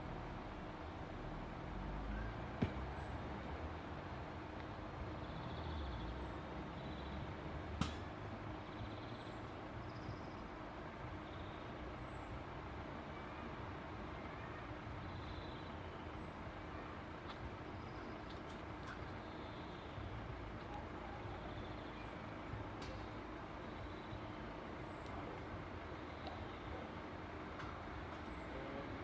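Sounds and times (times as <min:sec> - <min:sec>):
road vehicles rumbling: 0:00.0 - 0:29.0.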